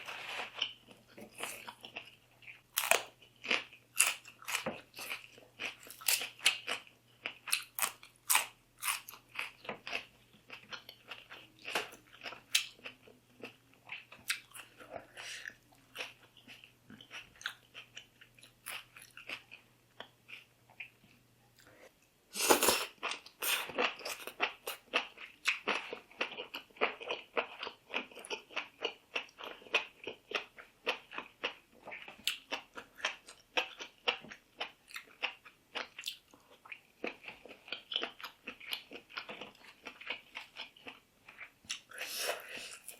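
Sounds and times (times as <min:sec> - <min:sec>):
person chewing and crunching: 0:00.0 - 0:42.9.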